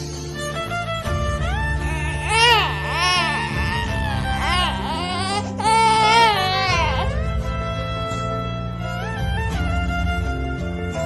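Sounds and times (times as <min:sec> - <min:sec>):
slow violin melody: 0:00.8 - 0:11.0.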